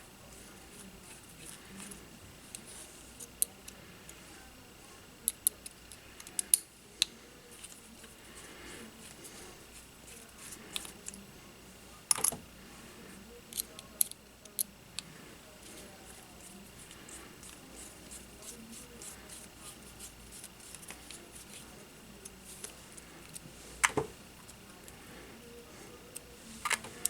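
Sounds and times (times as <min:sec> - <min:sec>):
faint steady background noise: 0:00.0 - 0:27.0.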